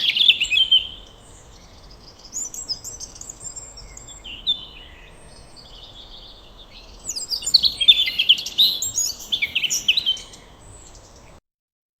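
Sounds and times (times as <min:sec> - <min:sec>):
small birds chirping: 0:00.0 - 0:11.4.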